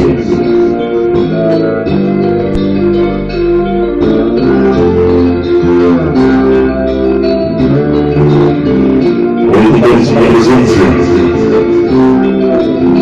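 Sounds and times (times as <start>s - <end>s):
instrumental music over sound system: 0.0s - 13.0s.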